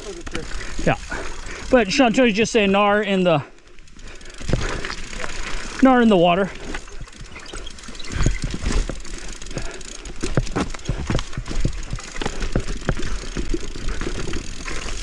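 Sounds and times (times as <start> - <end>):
mountain bike rattling over rocks: 0.0 - 15.0.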